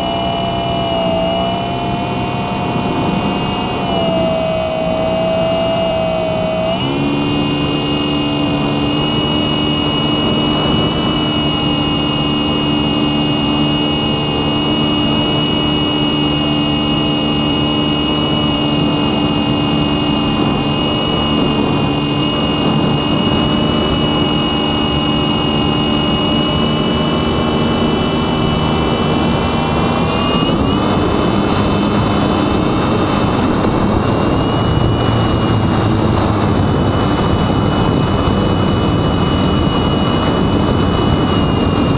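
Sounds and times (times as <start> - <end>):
electric motor whine: 0.0 - 41.9
loud rushing wind: 0.0 - 41.9.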